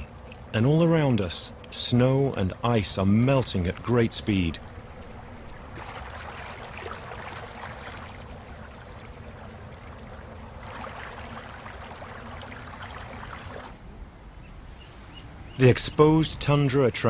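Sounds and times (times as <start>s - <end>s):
water running and trickling: 0.0s - 13.8s
steady low rumble: 0.0s - 14.4s.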